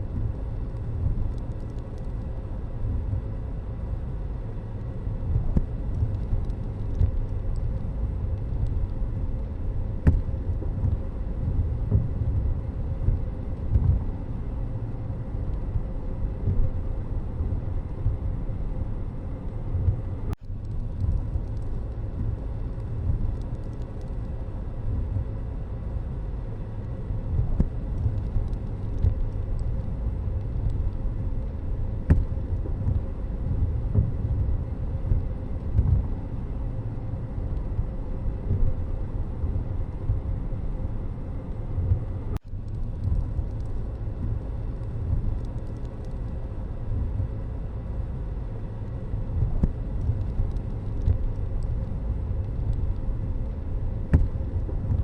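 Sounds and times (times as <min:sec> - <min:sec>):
road vehicle rumble: 0:00.0 - 0:55.0.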